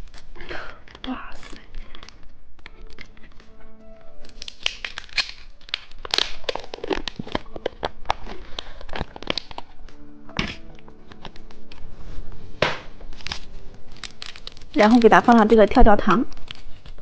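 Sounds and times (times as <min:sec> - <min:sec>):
clicks and crinkles of plastic wrappers: 0:00.0 - 0:03.5, 0:04.1 - 0:11.9, 0:12.9 - 0:17.0
background music: 0:00.0 - 0:17.0.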